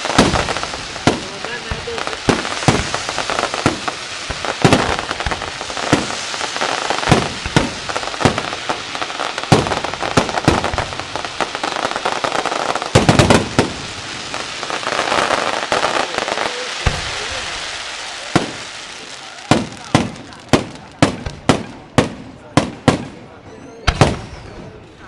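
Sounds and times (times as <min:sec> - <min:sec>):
loud firework bangs: 0:00.0 - 0:24.8
fireworks crackling: 0:00.0 - 0:25.0.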